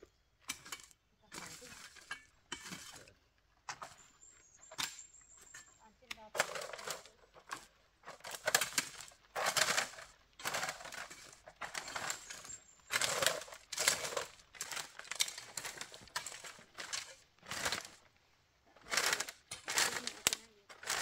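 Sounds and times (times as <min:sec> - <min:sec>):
hoe chopping and scraping dry soil: 0:00.4 - 0:18.1, 0:18.7 - 0:21.0.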